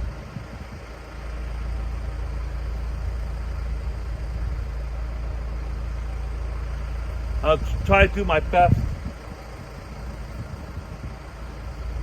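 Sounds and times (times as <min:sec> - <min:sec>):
backhoe engine running: 0:00.0 - 0:12.0.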